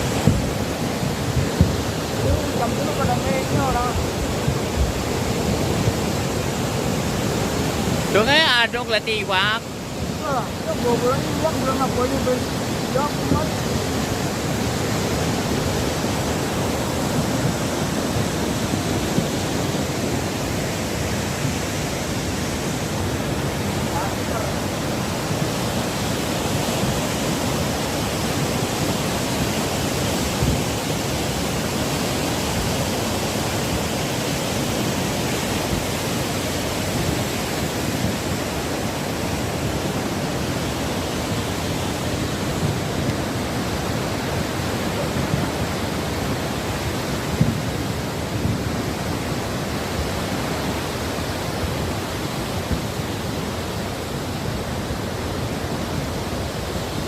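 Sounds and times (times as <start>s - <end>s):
heavy rain and rushing runoff: 0.0s - 57.0s.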